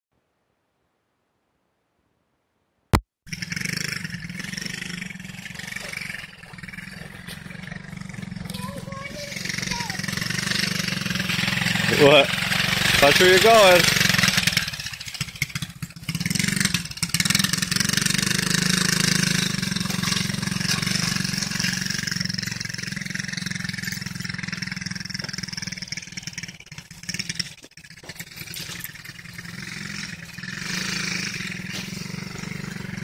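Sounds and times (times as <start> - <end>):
dirt bike engine running: 3.3 - 33.0.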